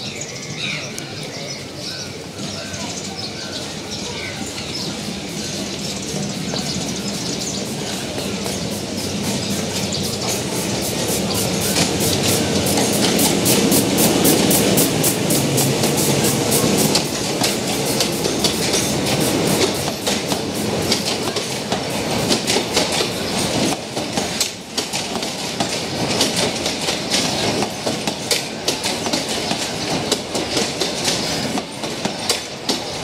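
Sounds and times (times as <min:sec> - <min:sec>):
train wheels clicking over rail joints: 0:04.5 - 0:33.0.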